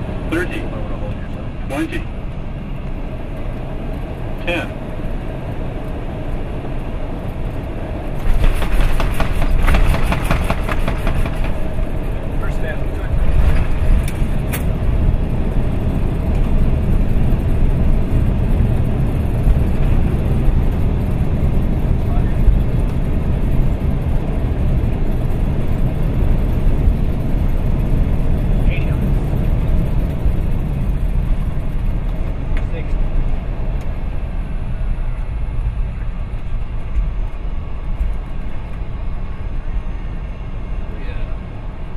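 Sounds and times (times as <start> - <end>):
aircraft engine and runway rumble: 0.0 - 41.9.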